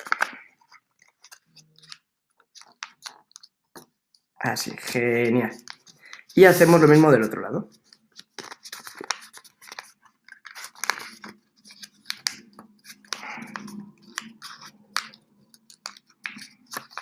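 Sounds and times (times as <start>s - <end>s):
paper being folded and creased: 0.0s - 17.0s.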